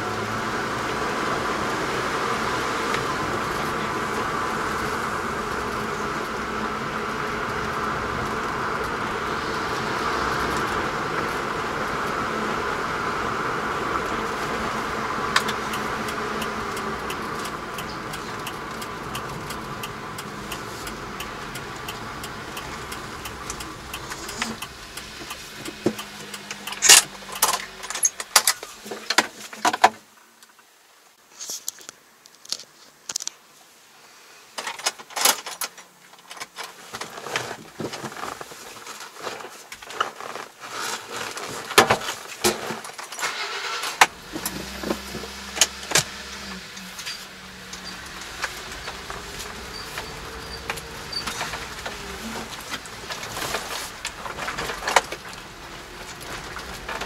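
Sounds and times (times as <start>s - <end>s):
truck engine and road noise: 0.0s - 33.8s, 34.5s - 57.0s.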